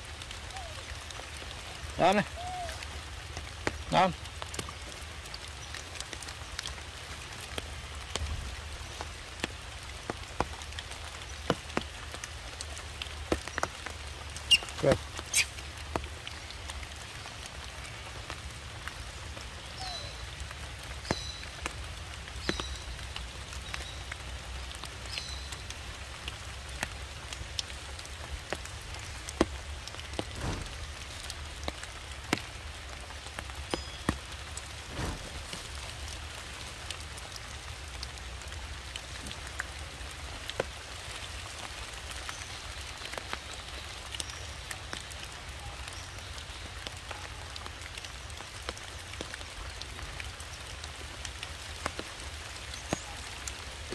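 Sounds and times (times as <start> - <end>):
raindrops ticking on leaves and stones: 0.0 - 53.9
steady rain hiss: 0.0 - 53.9.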